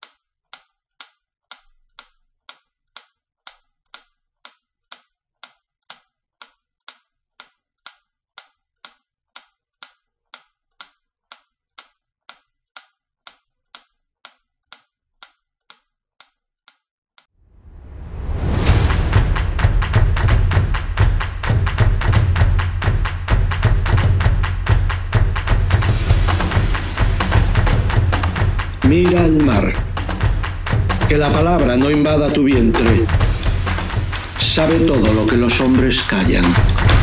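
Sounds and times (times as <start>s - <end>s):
clock ticking: 0.0s - 17.3s, 18.1s - 37.0s.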